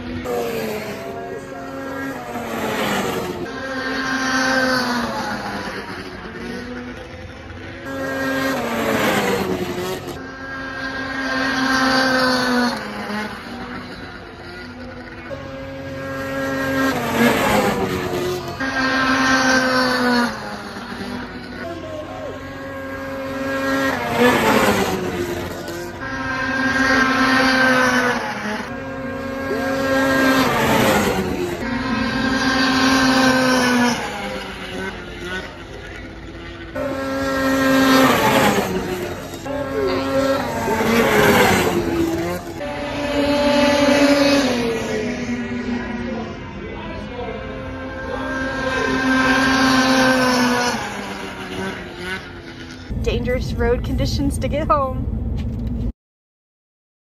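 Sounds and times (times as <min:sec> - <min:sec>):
snowmobile engines at high revs: 0:00.0 - 0:55.8.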